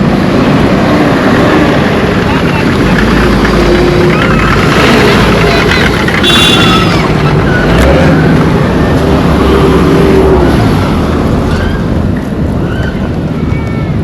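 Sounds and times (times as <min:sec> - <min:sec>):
road and wind noise: 0:00.0 - 0:14.0
vehicle rumble: 0:00.0 - 0:14.0.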